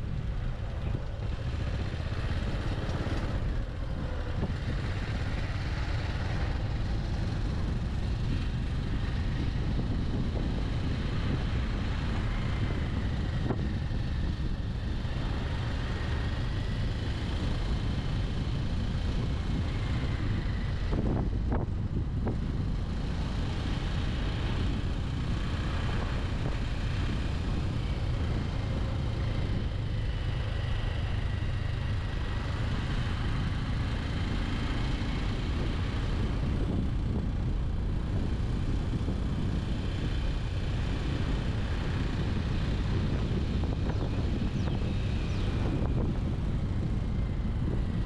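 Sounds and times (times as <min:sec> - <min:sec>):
motorcycle engine running: 0:00.0 - 0:48.0
wind noise on microphone: 0:00.0 - 0:48.0.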